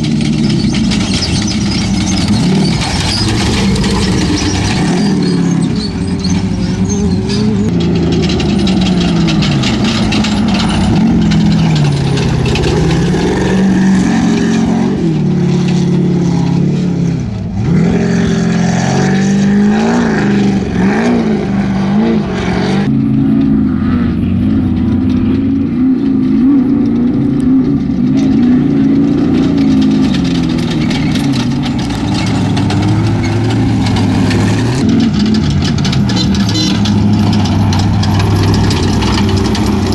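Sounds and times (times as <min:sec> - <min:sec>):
race vehicle engine revving: 0:00.0 - 0:39.9.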